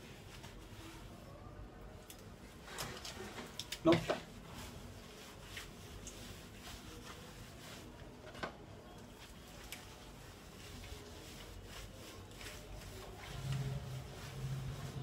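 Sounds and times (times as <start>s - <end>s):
wet rubbing of soapy fur: 0.0s - 1.3s, 2.4s - 8.2s, 9.0s - 15.0s.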